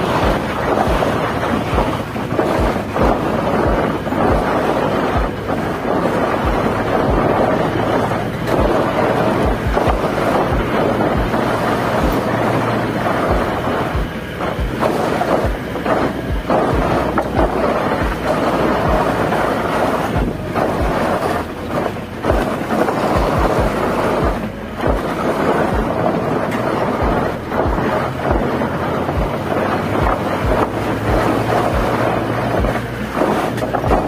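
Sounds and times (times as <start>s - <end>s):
low thuds of walking: 0.0s - 34.0s
wind buffeting microphone: 0.0s - 34.0s.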